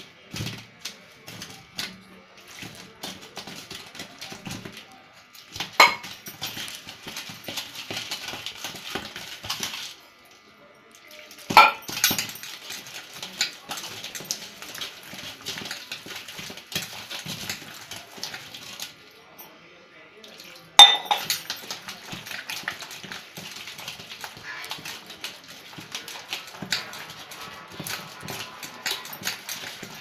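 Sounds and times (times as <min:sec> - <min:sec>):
batter squelching and scraping: 0:00.0 - 0:10.3, 0:11.0 - 0:19.4, 0:20.2 - 0:30.0.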